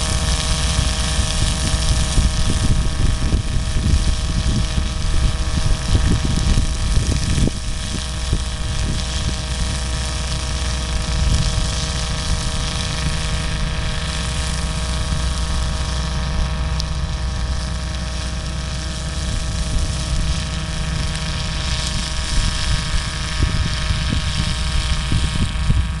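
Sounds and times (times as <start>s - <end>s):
flail shredder whine: 0.0s - 26.0s
tractor mechanical drone: 0.0s - 26.0s
wind buffeting microphone: 0.0s - 26.0s.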